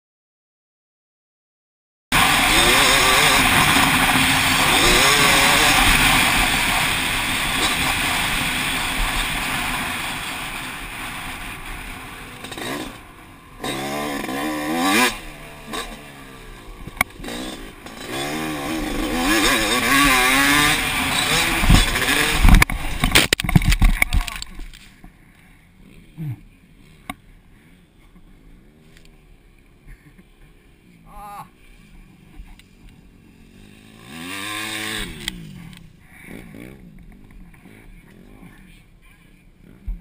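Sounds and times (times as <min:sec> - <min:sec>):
motocross bike engine revving: 0:02.1 - 0:24.9, 0:25.7 - 0:38.8.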